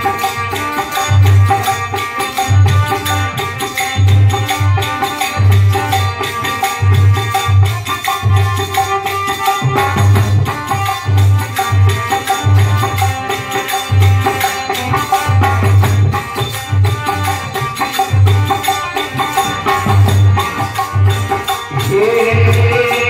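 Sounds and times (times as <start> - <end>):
deep dholak strokes: 0.0 - 23.0
harmonium melody: 0.0 - 23.0
jingling hand percussion: 0.0 - 23.0.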